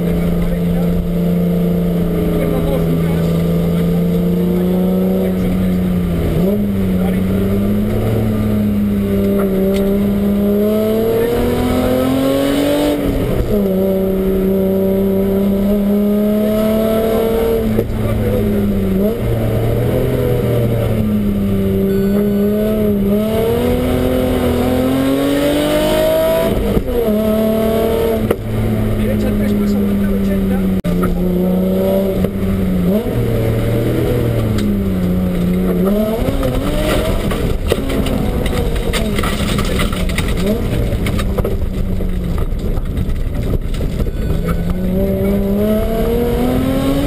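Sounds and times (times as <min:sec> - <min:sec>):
rally car engine revving: 0:00.0 - 0:47.0
road and wind noise: 0:00.0 - 0:47.0.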